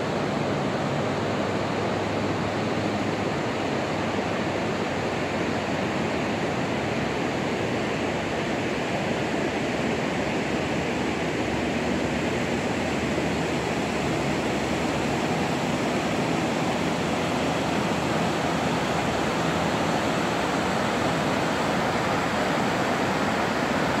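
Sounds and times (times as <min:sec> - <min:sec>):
waterfall and rapids rushing: 0:00.0 - 0:24.0.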